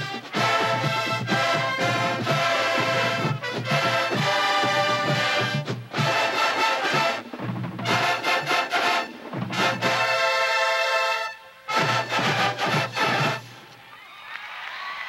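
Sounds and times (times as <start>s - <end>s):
brass horn line chords: 0.0s - 13.6s.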